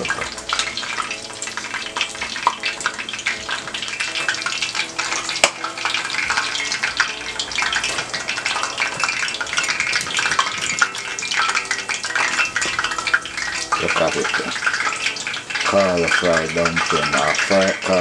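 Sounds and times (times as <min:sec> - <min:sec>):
oil sizzling in a frying pan: 0:00.0 - 0:18.0.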